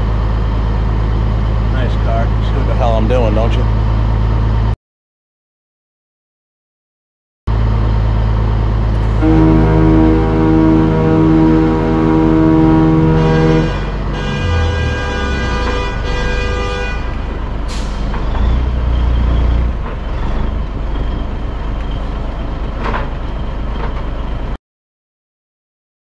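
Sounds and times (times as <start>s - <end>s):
diesel engine running: 0.0s - 4.8s, 7.5s - 24.6s.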